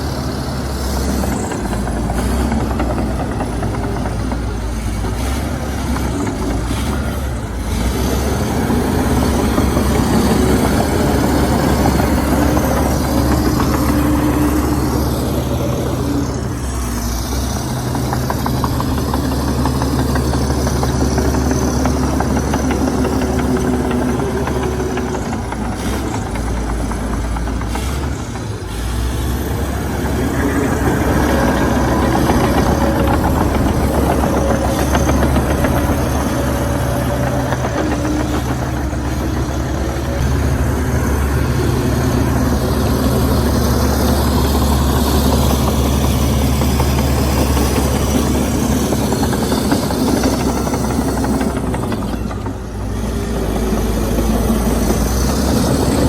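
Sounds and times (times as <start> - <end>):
heavy diesel engine working: 0.0 - 56.0.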